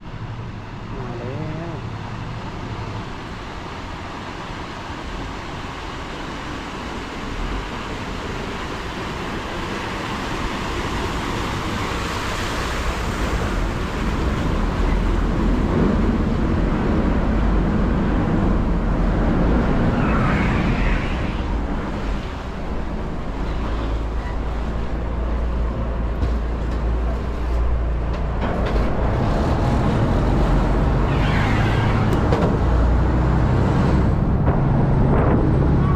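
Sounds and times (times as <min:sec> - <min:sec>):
traffic noise: 0:00.0 - 0:35.9
vehicle engine rumble: 0:00.0 - 0:35.9.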